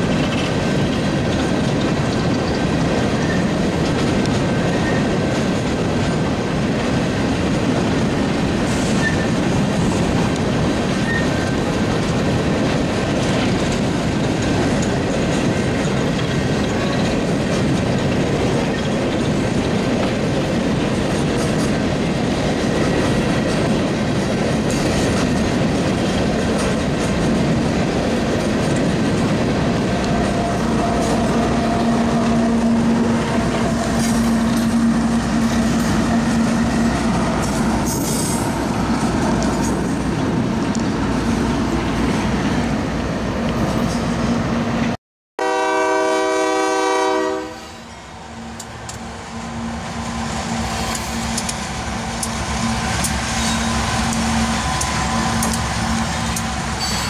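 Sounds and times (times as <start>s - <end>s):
diesel locomotive hum: 0.0s - 57.0s
train wheels rumbling on rails: 0.0s - 57.0s.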